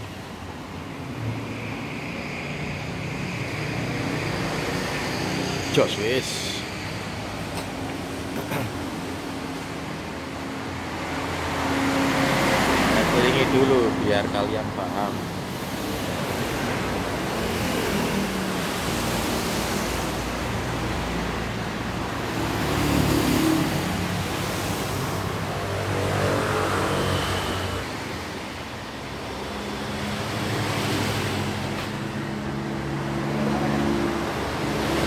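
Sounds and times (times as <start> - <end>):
broad rushing noise: 0.0 - 35.0.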